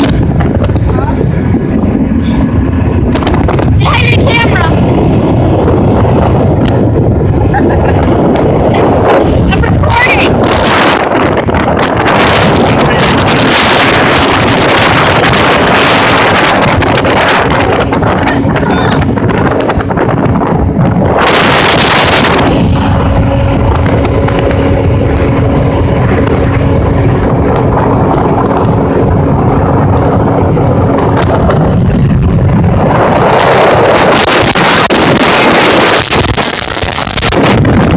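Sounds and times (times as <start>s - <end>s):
motorboat engine drone: 0.0s - 37.9s
wind buffeting microphone: 0.0s - 37.9s.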